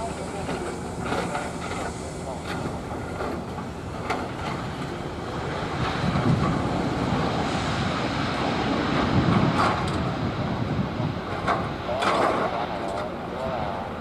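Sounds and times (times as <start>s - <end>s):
jet engines rushing and rumbling: 0.0s - 14.0s.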